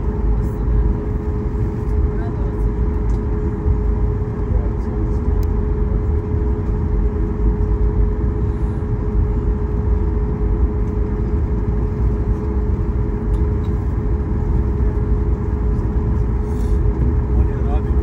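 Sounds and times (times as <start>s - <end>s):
aircraft cabin rumble and hum: 0.0s - 18.0s.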